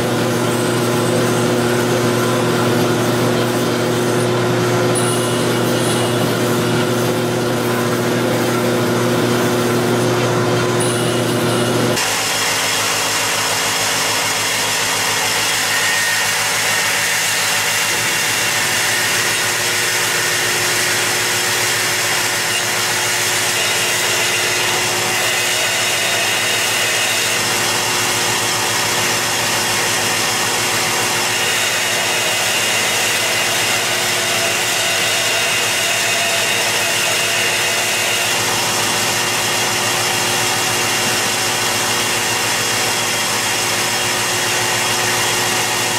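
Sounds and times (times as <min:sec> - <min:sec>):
belt grinder grinding steel: 0:00.0 - 0:45.9.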